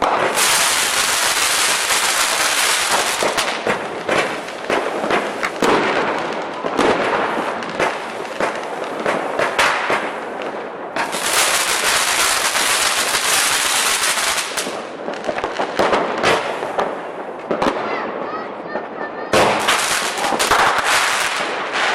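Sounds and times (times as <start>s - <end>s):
firecracker bangs and pops: 0.0s - 18.2s, 19.3s - 21.9s
fireworks crackling hiss: 0.0s - 18.2s, 19.3s - 21.9s.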